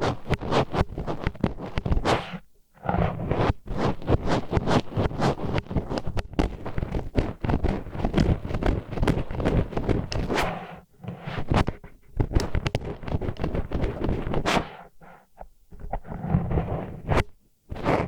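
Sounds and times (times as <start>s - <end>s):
wooden chopsticks scraping microphone: 0.0s - 18.0s.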